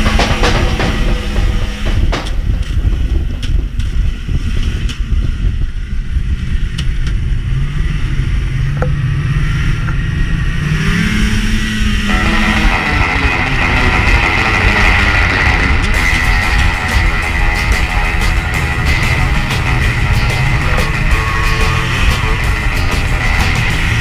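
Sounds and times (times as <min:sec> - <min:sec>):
snowmobile engine running: 0:00.0 - 0:24.0.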